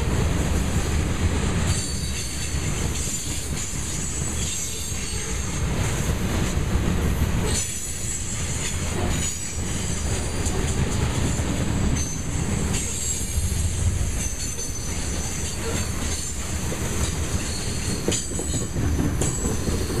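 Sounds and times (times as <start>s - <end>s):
train cars rumbling: 0.0s - 20.0s.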